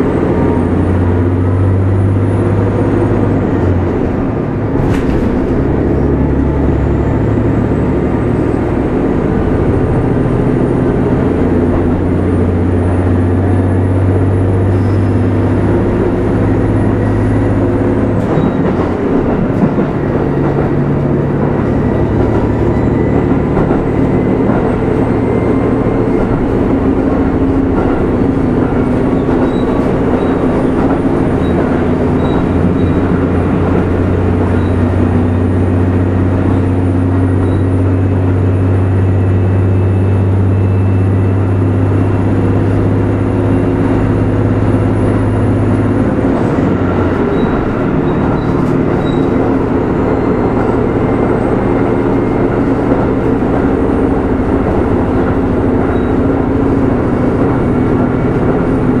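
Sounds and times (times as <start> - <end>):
diesel railcar engine humming: 0.0 - 59.0
train rumble: 0.0 - 59.0.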